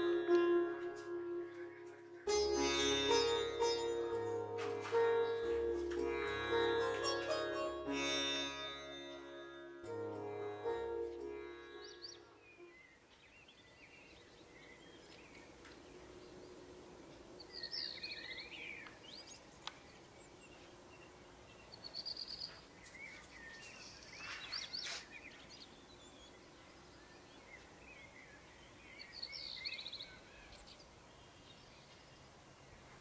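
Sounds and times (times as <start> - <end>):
birds chirping: 0.0 - 9.5, 10.1 - 33.0.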